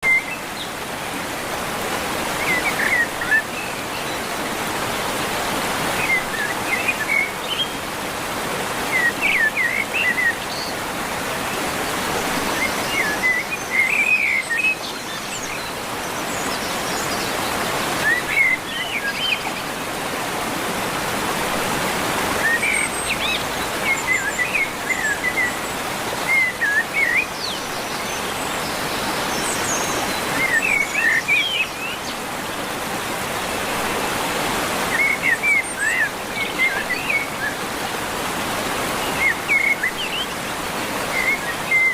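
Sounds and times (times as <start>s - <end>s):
birds chirping: 0.0s - 21.0s, 21.7s - 41.9s.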